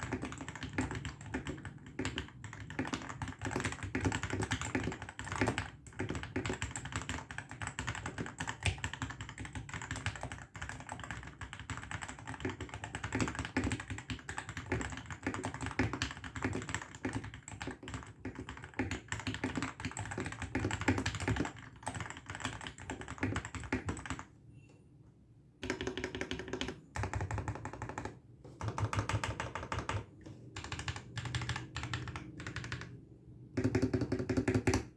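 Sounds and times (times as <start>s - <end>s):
mechanical keyboard typing: 0.0s - 24.3s, 25.6s - 34.9s.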